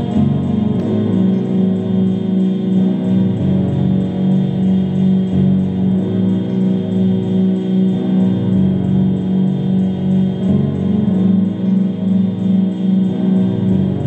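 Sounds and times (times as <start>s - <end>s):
sustained low instrumental tones: 0.0s - 14.0s.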